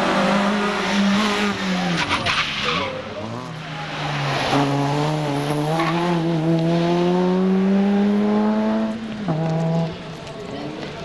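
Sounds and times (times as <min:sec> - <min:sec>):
car engine revving at full throttle: 0:00.0 - 0:10.0.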